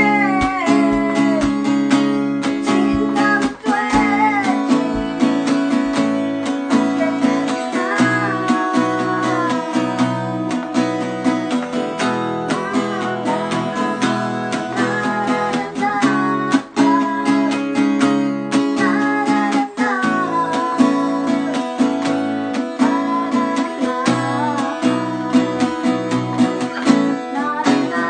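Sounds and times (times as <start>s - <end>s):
strummed acoustic guitar: 0.0s - 28.0s
woman singing: 0.0s - 28.0s.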